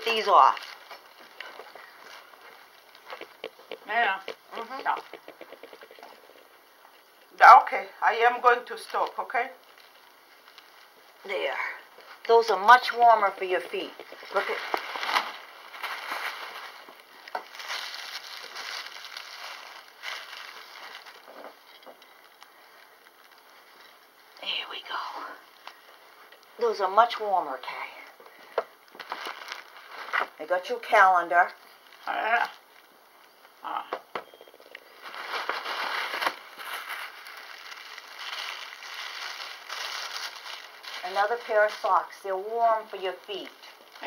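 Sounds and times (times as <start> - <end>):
paper gift bag crinkling: 0.0 - 32.9, 34.3 - 44.0
rustling handling noises: 0.0 - 33.6, 34.2 - 44.0.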